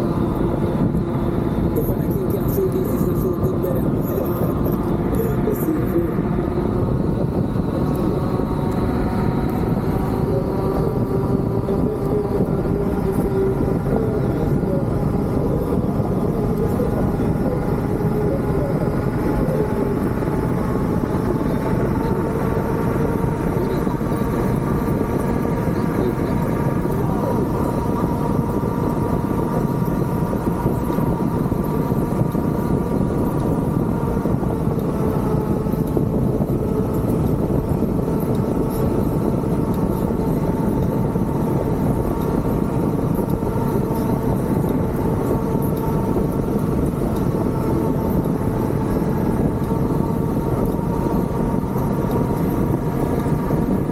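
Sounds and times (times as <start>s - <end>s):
hurricane wind howling: 0.0s - 53.9s.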